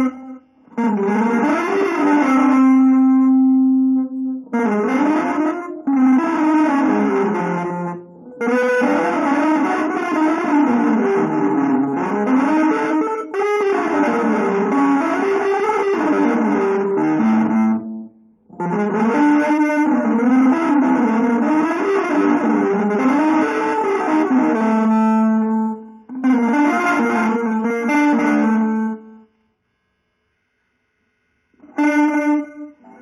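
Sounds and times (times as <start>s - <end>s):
guitar playing quick runs: 0.0s - 29.2s.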